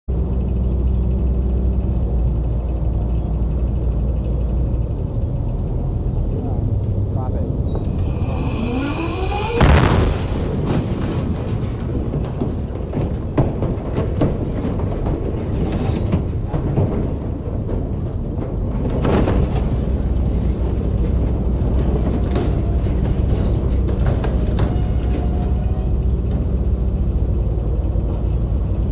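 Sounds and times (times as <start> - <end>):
heavy machine engine rumbling: 0.1 - 28.9
metallic creaks and clanks: 0.1 - 28.9.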